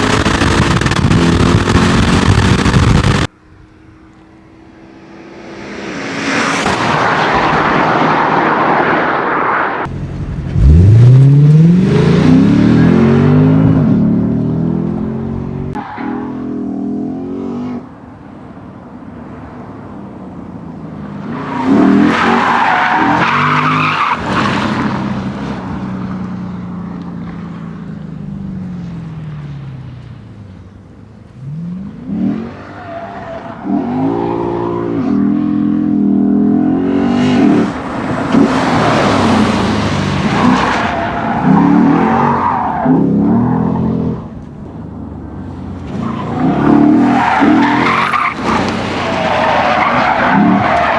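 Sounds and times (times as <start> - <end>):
car engine revving: 0.0 - 18.6, 19.2 - 50.9.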